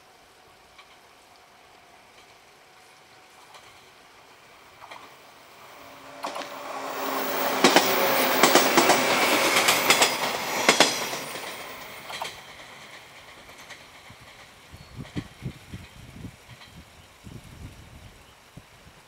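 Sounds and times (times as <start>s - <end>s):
electric train passing: 0.0s - 16.0s
wheels clicking over rail joints: 0.6s - 2.5s, 3.3s - 16.8s.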